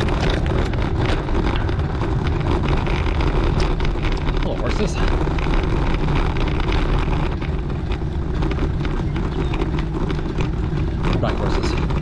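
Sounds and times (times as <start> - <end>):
bicycle tyre road noise: 0.0 - 12.0
small clicks and knocks: 0.0 - 12.0
wind rumbling on microphone: 0.0 - 12.0.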